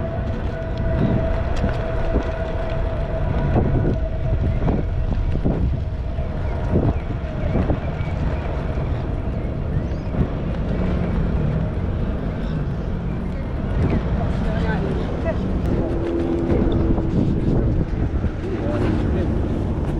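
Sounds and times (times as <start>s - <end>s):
steady low rumble: 0.0s - 19.9s
wind rushing over microphone: 0.0s - 19.9s.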